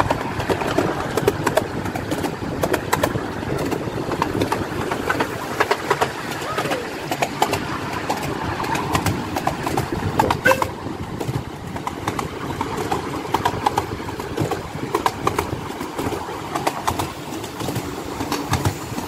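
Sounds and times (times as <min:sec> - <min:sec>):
train wheel rumble: 0:00.0 - 0:19.0
wheels clattering over rail joints: 0:00.0 - 0:19.0.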